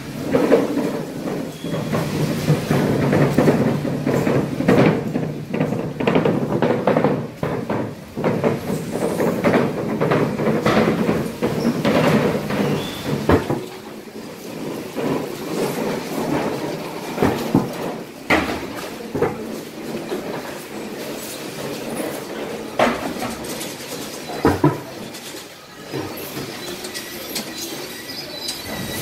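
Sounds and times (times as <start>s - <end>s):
dense rumble of market activity: 0.0s - 29.0s
sharp knocks and clatter: 0.1s - 27.9s.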